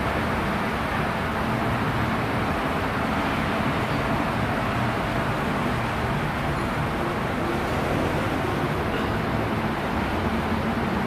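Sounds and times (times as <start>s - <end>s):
machinery hum and rush: 0.0s - 11.0s.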